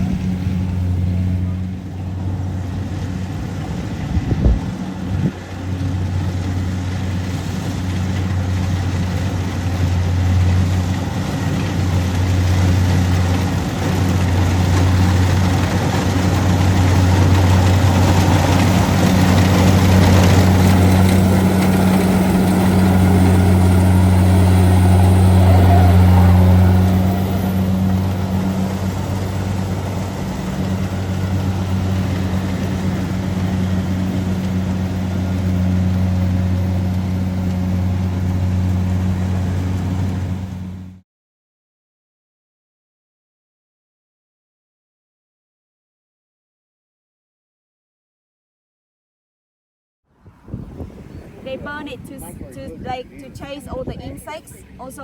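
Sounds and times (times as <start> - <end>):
combine harvester engine running: 0.0 - 41.0, 51.2 - 55.0.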